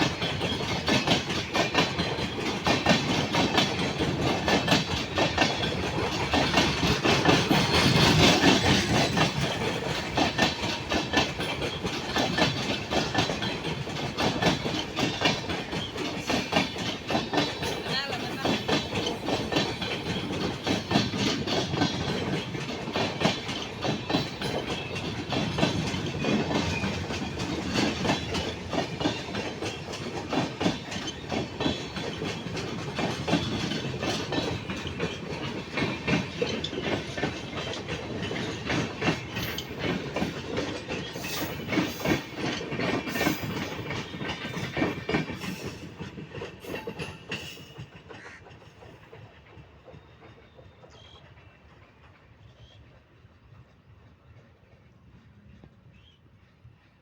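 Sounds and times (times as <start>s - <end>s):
train rumble: 0.0s - 57.0s
train wheels clattering: 0.0s - 57.0s.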